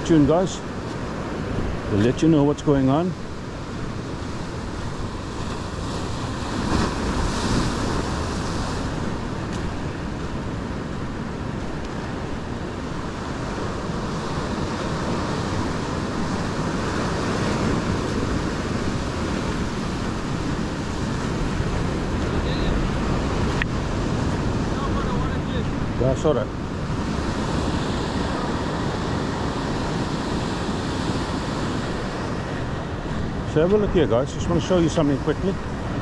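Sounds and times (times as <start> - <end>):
ocean surf breaking on rocks: 0.0 - 36.0
wind rumbling on microphone: 0.0 - 36.0.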